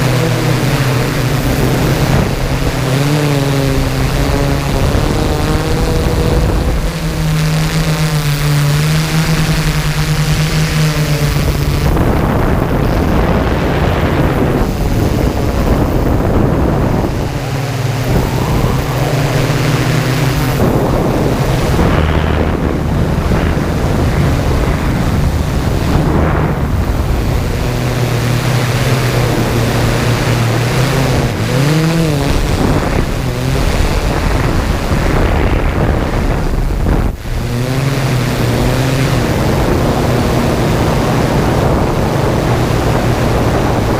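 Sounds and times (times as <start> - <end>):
drone motors humming: 0.0 - 43.9
wind noise on microphone: 0.0 - 43.9.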